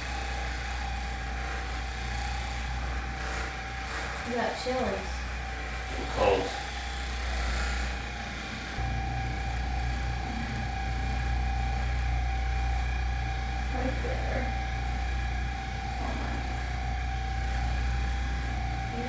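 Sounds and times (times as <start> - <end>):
massage gun buzzing and whining: 0.0 - 19.0.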